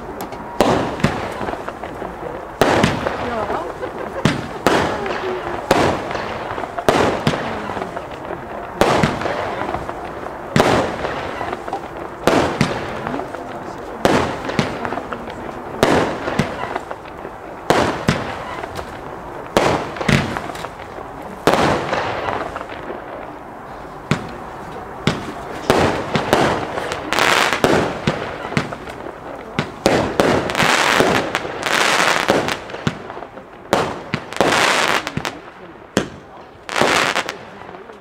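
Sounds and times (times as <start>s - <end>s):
firework shots banging: 0.0s - 23.4s, 24.0s - 38.0s.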